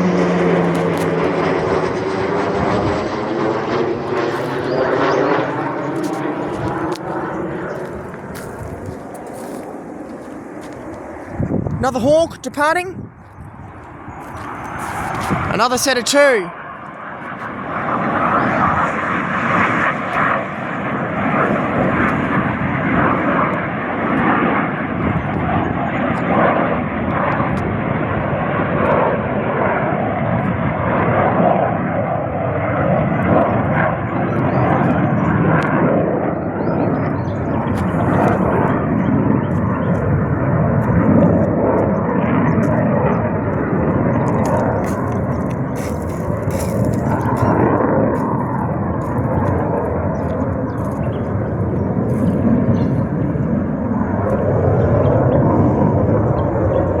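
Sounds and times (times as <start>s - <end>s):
jet engines roaring at take-off: 0.0s - 57.0s.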